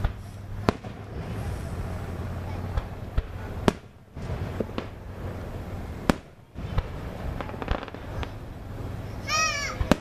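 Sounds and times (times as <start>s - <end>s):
fireworks bursting with bangs: 0.0s - 10.0s
fireworks pops and crackles: 0.0s - 10.0s.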